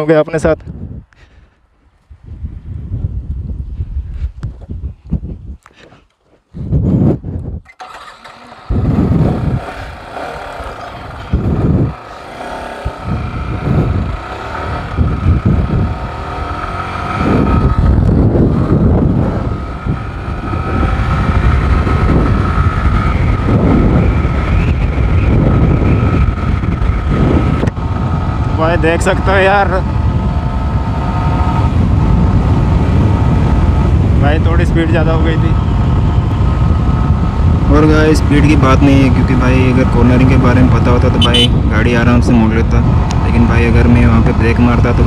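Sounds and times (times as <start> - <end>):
wind rumble on microphone: 0.0 - 45.0
motorcycle engine: 6.9 - 45.0.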